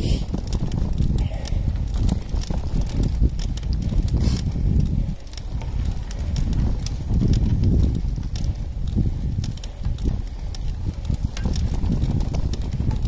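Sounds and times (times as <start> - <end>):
bicycle tyres crunching on gravel: 0.0 - 13.0
wind rumble on microphone: 0.0 - 13.0
grit clicks: 0.2 - 13.0.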